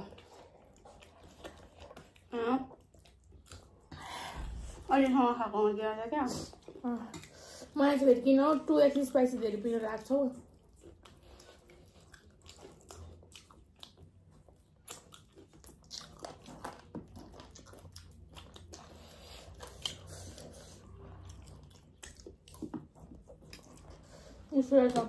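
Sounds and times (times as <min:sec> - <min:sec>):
people chewing food: 0:00.0 - 0:25.0.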